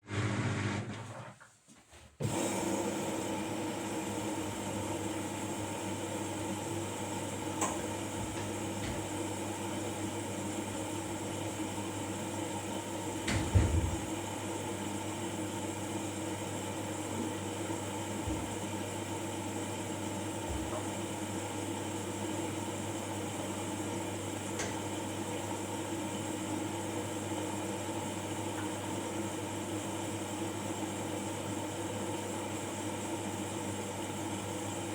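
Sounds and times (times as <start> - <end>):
washing machine running: 0.0 - 1.4, 2.2 - 34.9.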